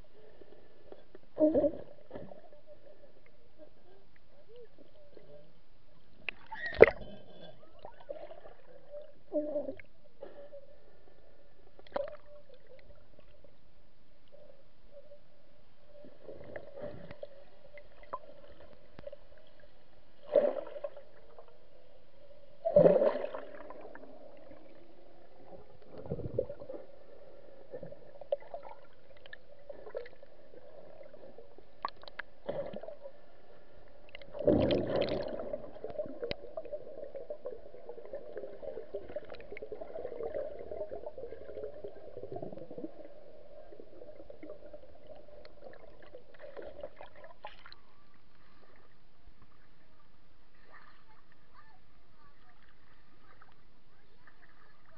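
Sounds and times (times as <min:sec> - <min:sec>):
low underwater hum: 0:00.0 - 0:54.9
water gurgling: 0:00.0 - 0:54.9.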